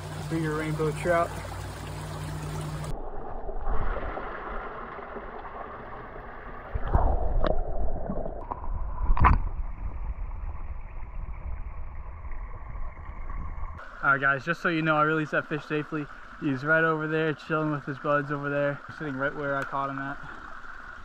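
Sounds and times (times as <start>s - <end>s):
muffled underwater stream gurgling: 0.0s - 21.0s.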